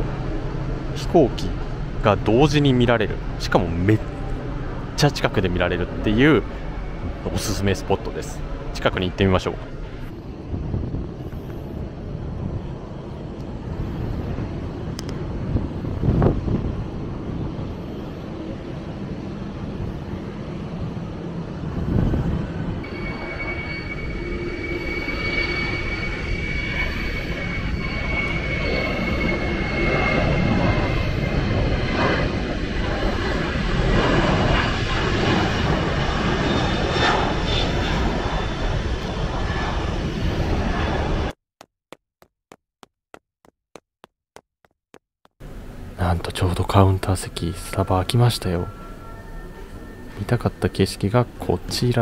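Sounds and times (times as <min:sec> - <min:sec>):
jet engine high whine: 0:00.0 - 0:41.4, 0:45.4 - 0:52.0
jet engine low rumble: 0:00.0 - 0:41.4, 0:45.4 - 0:52.0.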